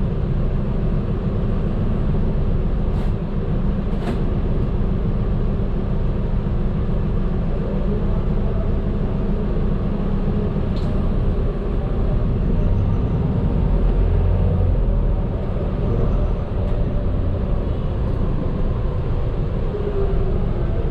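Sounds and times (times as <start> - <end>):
bus engine and road noise: 0.0 - 20.9.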